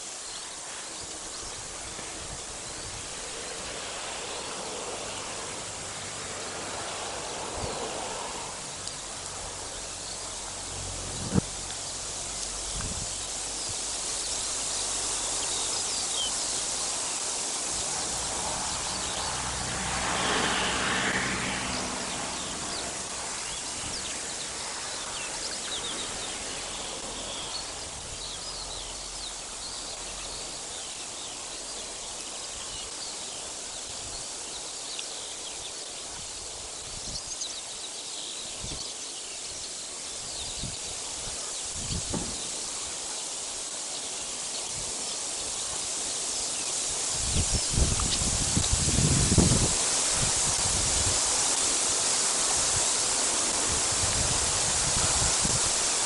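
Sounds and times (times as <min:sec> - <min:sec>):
small birds chirping: 0:00.0 - 0:56.0
wind through leaves: 0:00.0 - 0:56.0.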